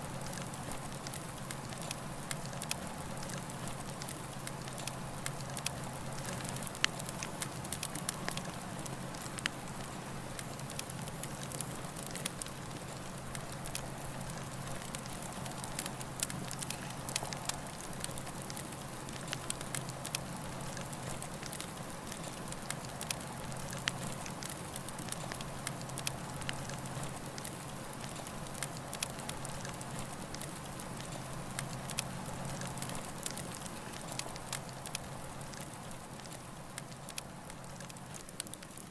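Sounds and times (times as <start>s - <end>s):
campfire burning: 0.0s - 38.9s
wood crackling and popping: 0.0s - 38.9s.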